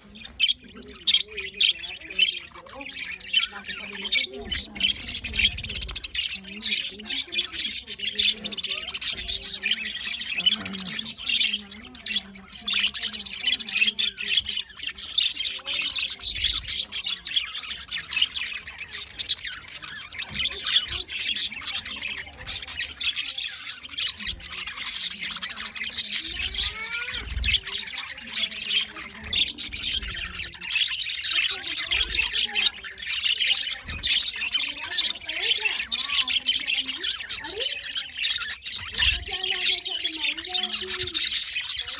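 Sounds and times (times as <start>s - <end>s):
budgerigars chattering and squawking: 0.0s - 41.9s.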